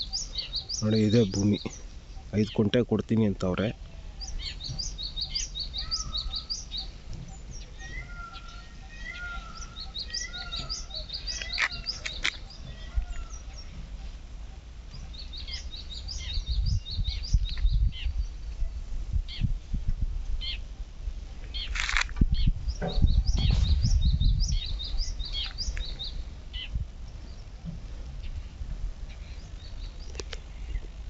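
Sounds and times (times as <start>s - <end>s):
birds chirping: 0.0s - 19.5s, 20.4s - 31.0s.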